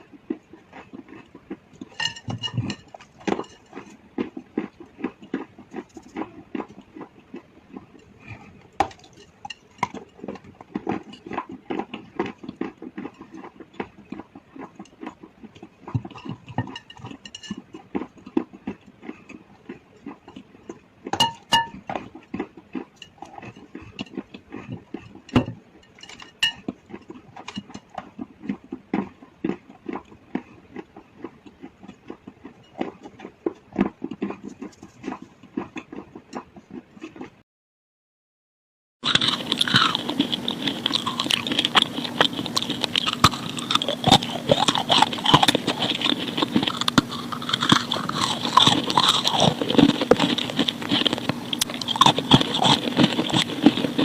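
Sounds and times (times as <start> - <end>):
mouth chewing and crunching chalk: 0.0 - 37.4, 39.0 - 54.0.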